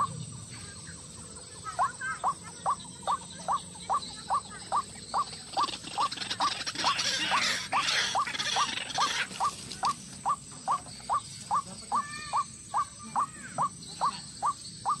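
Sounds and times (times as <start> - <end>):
waterhen calling: 1.7 - 15.0.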